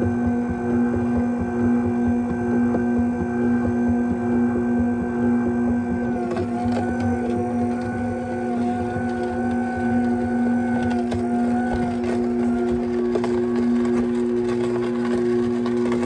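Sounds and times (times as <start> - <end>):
juicer motor humming: 0.0 - 16.0.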